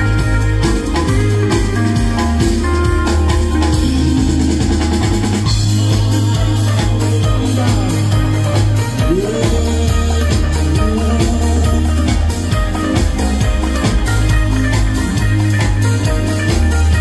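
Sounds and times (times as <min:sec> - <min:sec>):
drum kit beat: 0:00.0 - 0:17.0
heavy bass line: 0:00.0 - 0:17.0
live electronic band playing: 0:00.0 - 0:17.0.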